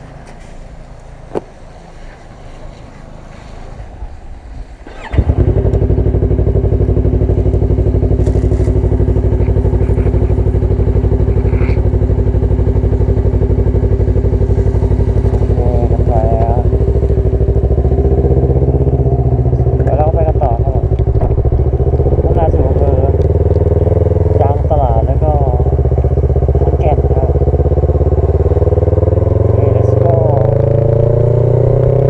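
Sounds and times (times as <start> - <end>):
motorcycle engine starting and idling: 0.0 - 32.0.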